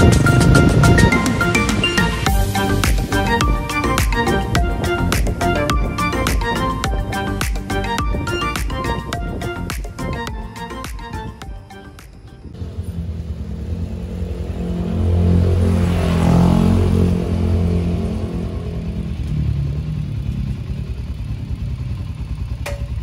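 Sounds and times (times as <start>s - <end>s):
motorcycle engine running: 0.0s - 10.5s, 12.6s - 23.0s.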